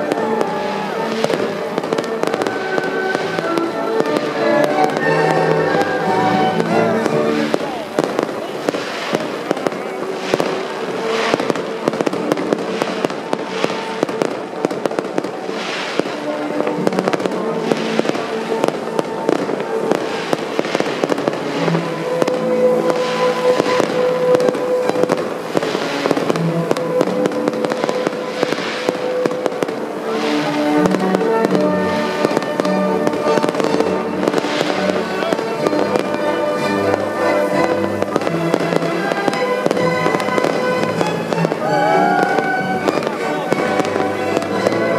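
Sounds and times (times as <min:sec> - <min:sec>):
fireworks crackling and popping: 0:00.0 - 0:44.9
music playing: 0:00.0 - 0:44.9.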